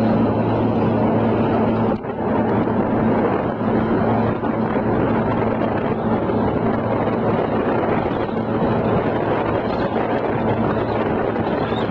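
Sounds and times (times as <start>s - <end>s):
motorboat engine hum: 0.0s - 11.9s
wind buffeting microphone: 0.0s - 11.9s.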